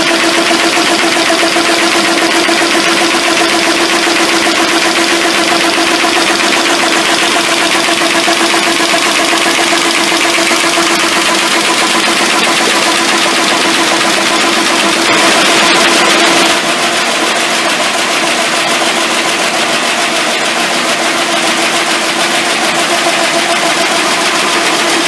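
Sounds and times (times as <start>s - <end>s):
machine hum: 0.0s - 25.0s
rapid even clatter: 0.0s - 25.0s.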